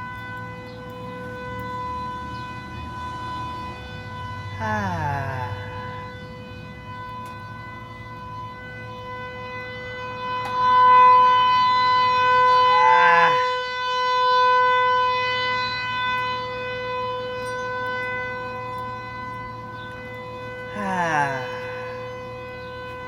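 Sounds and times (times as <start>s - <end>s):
warning siren steady tone: 0.0s - 23.0s.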